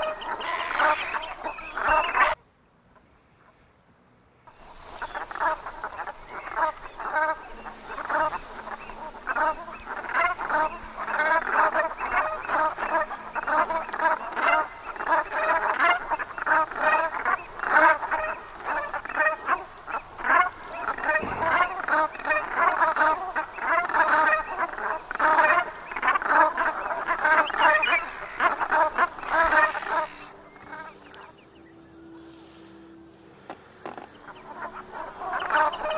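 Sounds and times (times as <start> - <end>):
geese honking: 0.0 - 2.4, 4.5 - 35.9.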